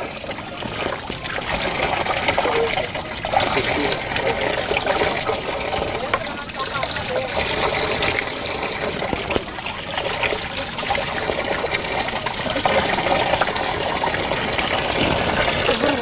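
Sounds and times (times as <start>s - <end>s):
water pouring from a pipe: 0.0s - 16.0s.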